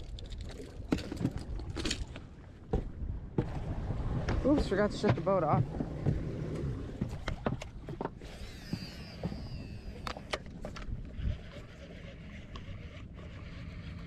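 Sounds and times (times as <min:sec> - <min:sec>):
boat motor humming: 0:00.7 - 0:14.0.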